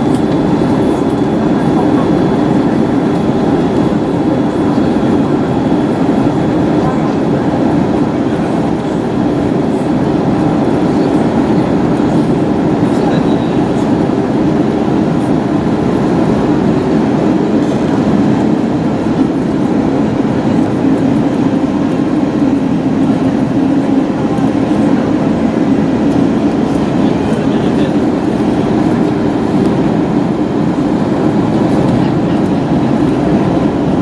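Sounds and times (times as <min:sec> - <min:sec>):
airliner cabin low rumble: 0:00.0 - 0:34.0.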